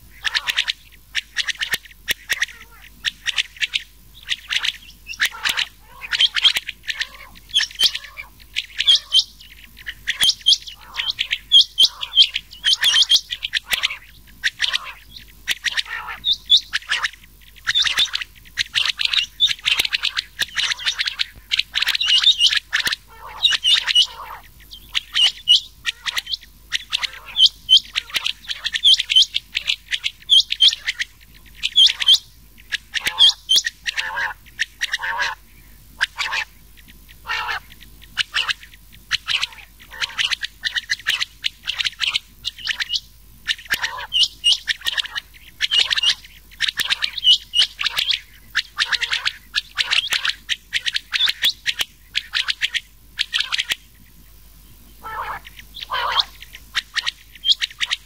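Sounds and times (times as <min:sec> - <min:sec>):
quail calls: 0:00.0 - 0:54.2, 0:54.8 - 0:58.0.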